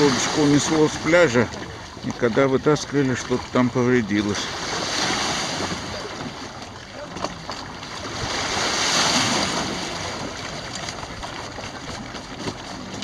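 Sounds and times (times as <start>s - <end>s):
small waves washing on shore: 0.0s - 13.0s.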